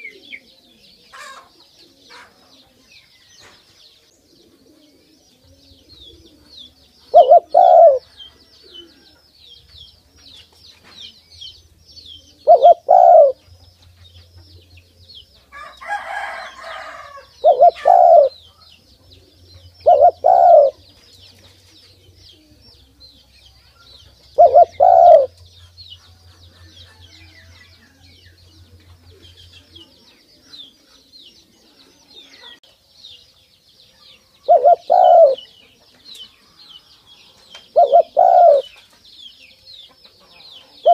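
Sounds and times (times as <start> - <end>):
dove cooing: 0.0 - 2.9, 4.1 - 9.3, 12.2 - 32.6, 34.4 - 35.5, 36.4 - 38.8, 40.2 - 40.9
small birds twittering: 0.0 - 40.9.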